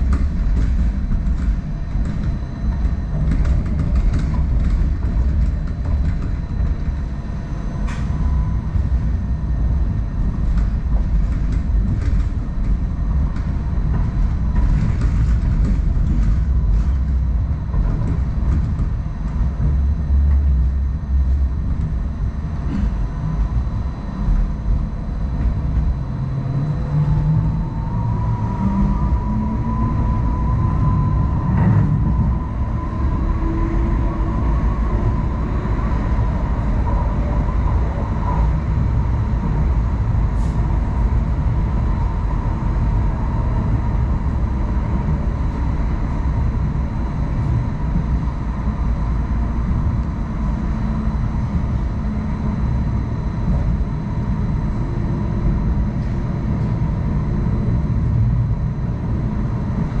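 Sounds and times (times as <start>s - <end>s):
high whine: 0.0s - 60.0s
train wheels rumbling on track: 0.0s - 60.0s.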